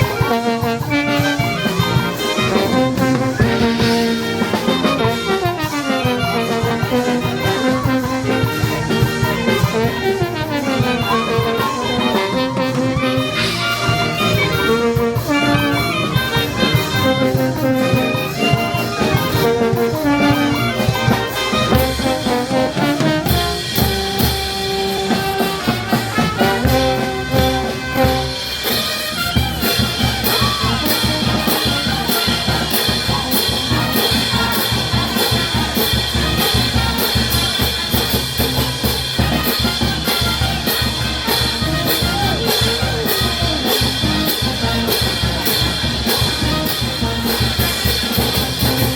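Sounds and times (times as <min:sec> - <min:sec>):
brass band playing: 0:00.0 - 0:48.9
drums and cymbals beat: 0:00.0 - 0:48.9.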